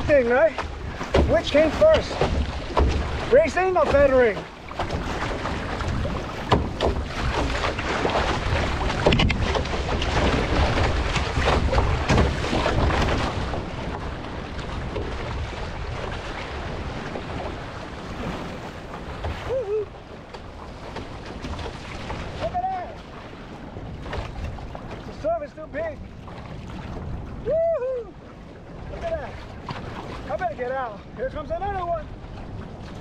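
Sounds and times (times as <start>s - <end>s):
water sloshing and splashing: 0.0s - 33.0s
wind buffeting microphone: 0.0s - 33.0s.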